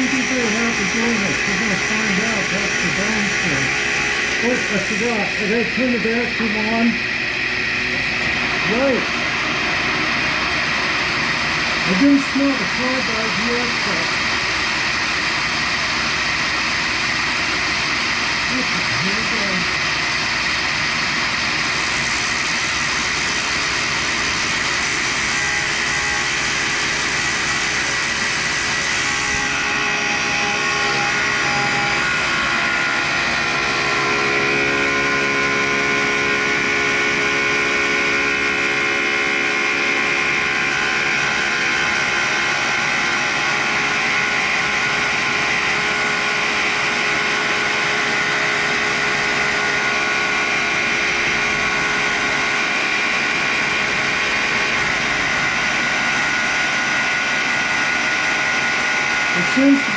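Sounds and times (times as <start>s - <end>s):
grinder wheel cutting carbide: 0.0s - 59.9s
shop vacuum running: 0.0s - 59.9s.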